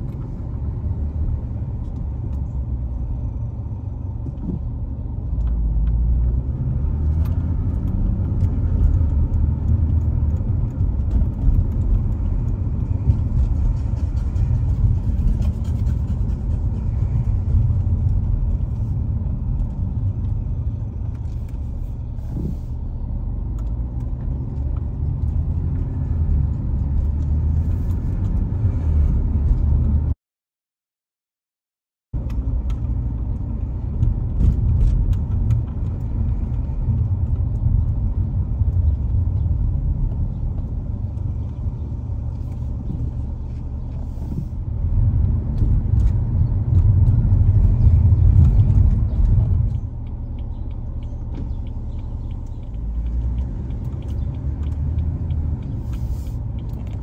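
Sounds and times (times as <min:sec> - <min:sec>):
car driving low rumble: 0:00.0 - 0:30.2, 0:32.2 - 0:57.0.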